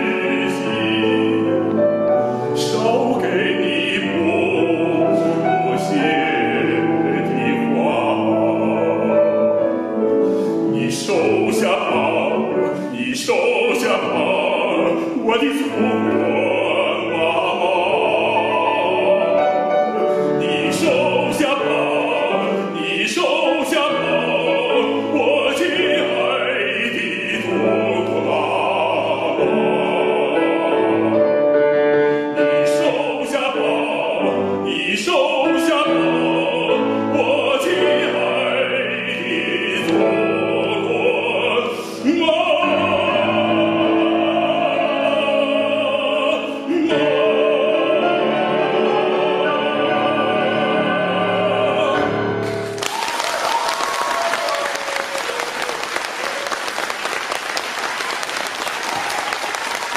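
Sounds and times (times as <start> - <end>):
man singing opera: 0.0 - 56.2
grand piano: 0.0 - 59.9.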